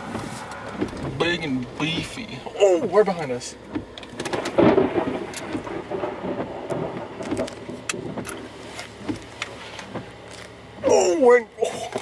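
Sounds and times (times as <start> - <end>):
rain on a car: 0.0 - 12.0
wind: 0.0 - 12.0.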